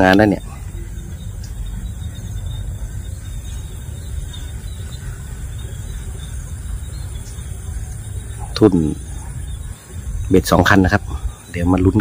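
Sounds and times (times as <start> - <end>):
crickets droning: 0.0 - 12.0
wind buffeting microphone: 0.0 - 12.0.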